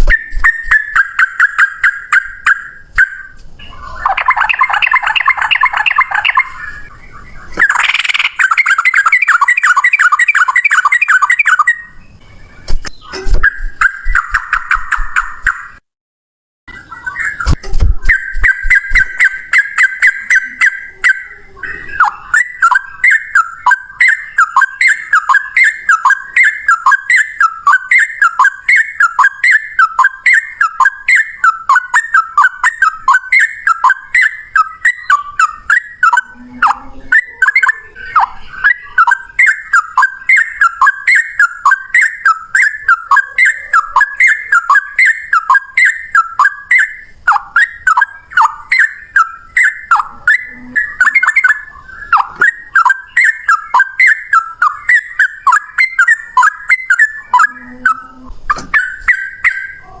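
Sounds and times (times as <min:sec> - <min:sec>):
bulbul singing rapid whistled notes: 0:00.0 - 0:15.8, 0:16.7 - 1:00.0.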